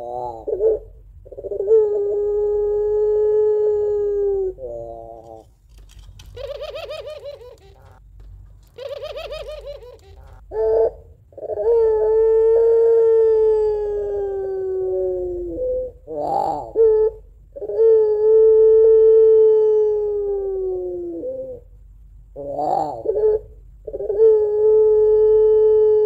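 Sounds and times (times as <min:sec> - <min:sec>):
dove cooing and trilling: 0:00.0 - 0:26.0.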